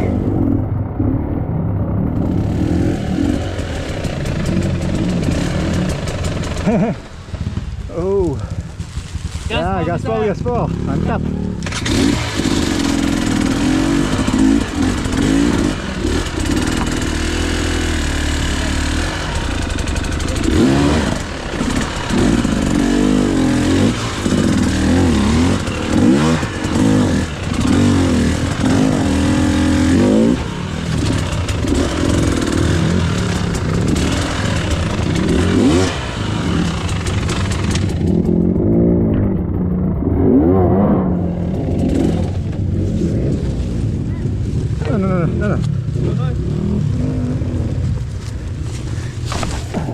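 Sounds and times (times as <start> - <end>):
dirt bike engine revving: 0.0 - 7.8, 9.4 - 44.0, 48.8 - 49.9.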